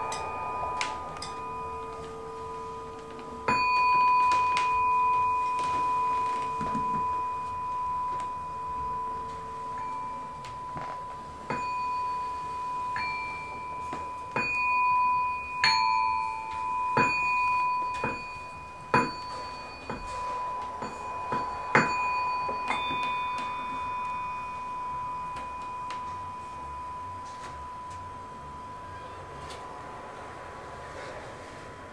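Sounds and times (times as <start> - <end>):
metal chimes ringing: 0.0 - 30.8.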